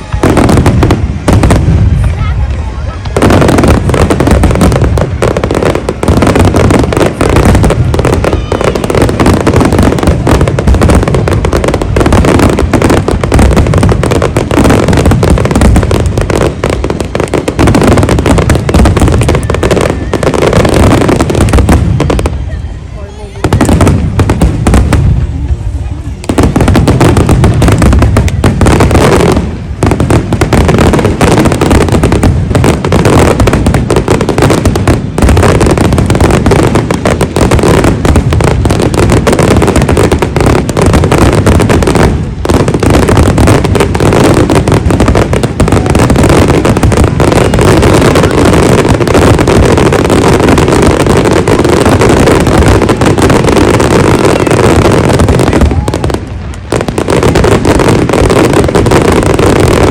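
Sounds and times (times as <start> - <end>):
fireworks exploding: 0.0 - 59.9.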